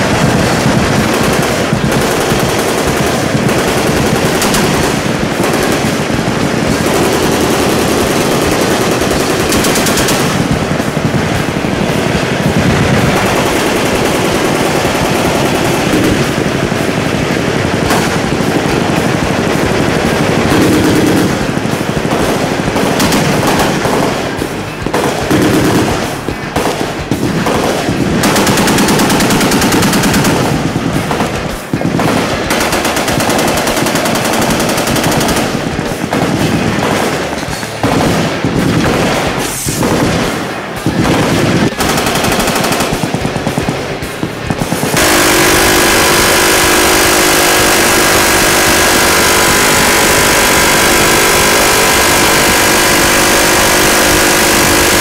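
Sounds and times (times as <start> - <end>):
machine guns firing: 0.0 - 55.0.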